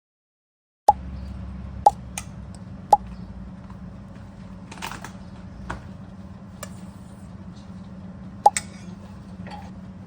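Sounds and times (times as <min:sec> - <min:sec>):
steady low hum: 0:00.9 - 0:10.0.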